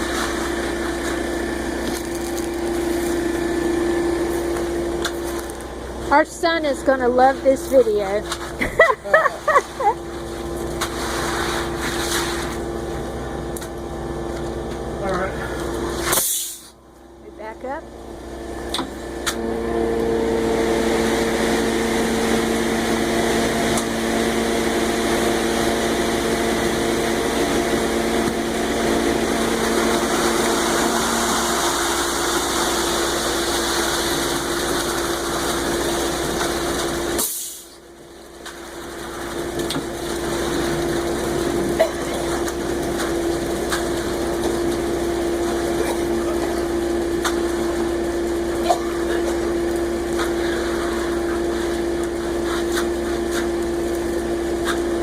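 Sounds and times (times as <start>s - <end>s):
truck engine humming: 0.0s - 11.8s, 12.5s - 55.0s.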